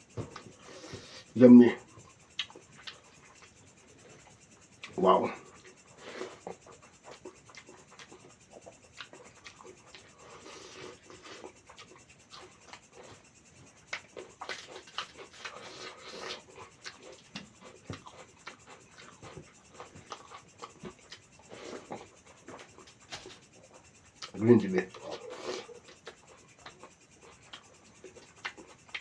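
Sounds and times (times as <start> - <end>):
chewing and mouth clicks: 0.1 - 29.0.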